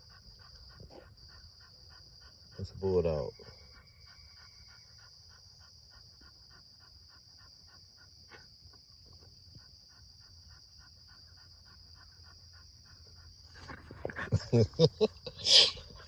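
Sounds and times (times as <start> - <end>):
dog panting: 0.0 - 16.0
high drone of insects: 0.0 - 16.0.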